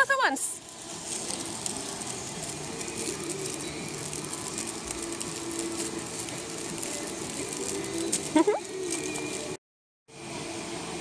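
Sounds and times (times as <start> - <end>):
campfire crackling: 0.6 - 9.5.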